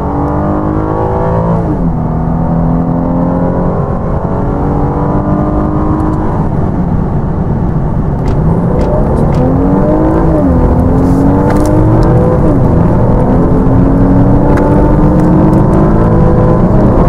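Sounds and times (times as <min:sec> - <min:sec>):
car engine revving: 0:00.0 - 0:06.8, 0:07.7 - 0:17.0.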